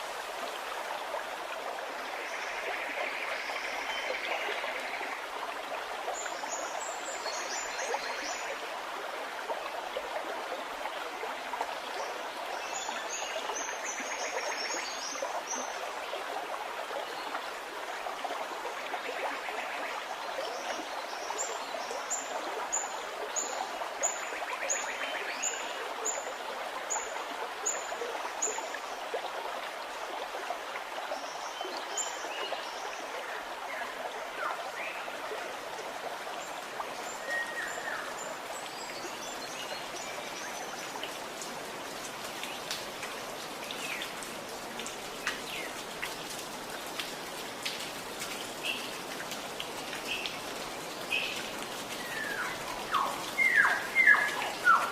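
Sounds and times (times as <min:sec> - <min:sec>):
gurgling running water: 0:00.0 - 0:54.9.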